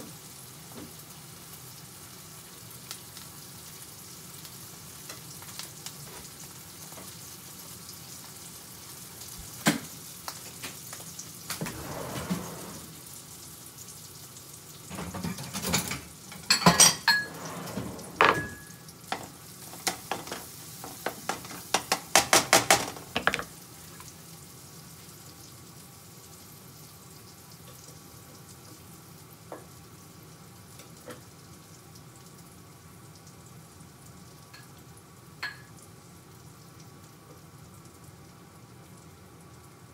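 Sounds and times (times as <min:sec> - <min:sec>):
rice sizzling in a frying pan: 0:00.0 - 0:39.9.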